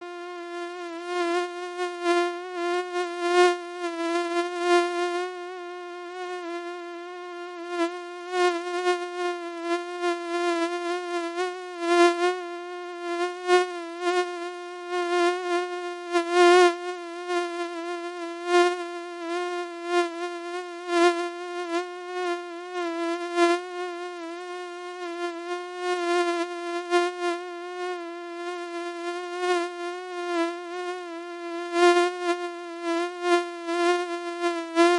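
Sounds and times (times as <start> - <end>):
mosquito whine: 0.0 - 34.9.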